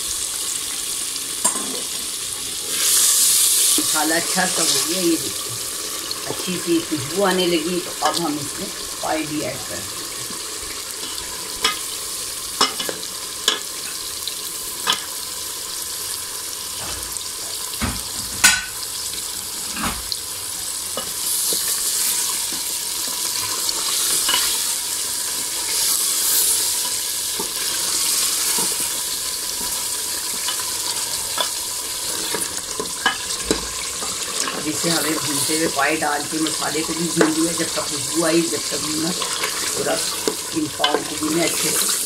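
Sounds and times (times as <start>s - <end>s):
meat sizzling in hot oil: 0.0s - 42.0s.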